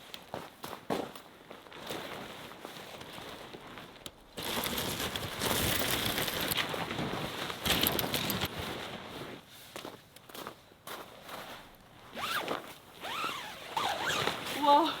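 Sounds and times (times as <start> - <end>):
tent fabric rustling: 1.2 - 9.8, 11.2 - 15.0.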